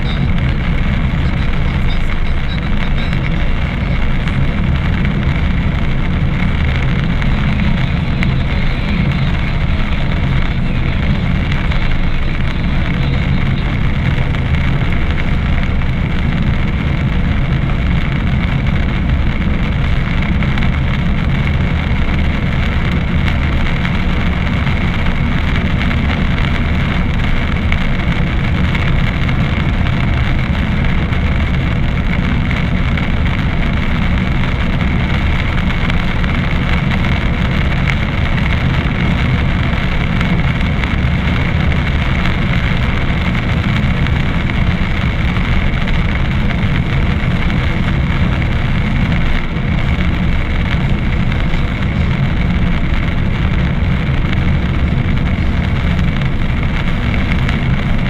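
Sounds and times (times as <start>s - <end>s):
car engine and tyres running: 0.0s - 58.0s
rain on windscreen: 0.0s - 58.0s.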